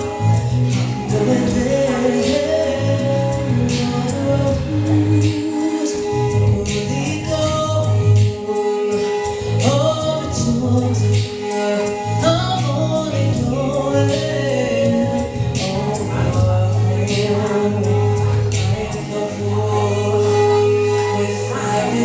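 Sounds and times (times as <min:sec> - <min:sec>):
low bass notes: 0:00.0 - 0:22.0
people singing with harmonies: 0:00.0 - 0:22.0.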